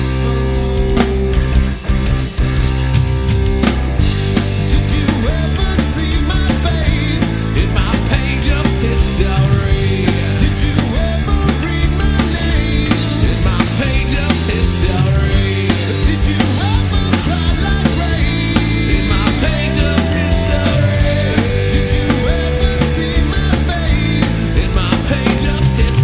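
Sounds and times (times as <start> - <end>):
drums hitting: 0.0 - 26.0
loud rock music: 0.0 - 26.0.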